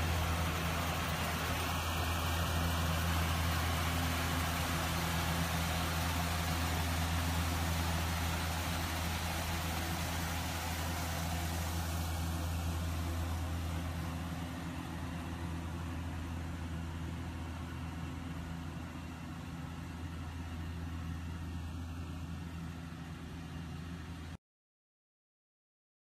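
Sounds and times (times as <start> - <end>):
muffled combine harvester engine drone: 0.0 - 24.4.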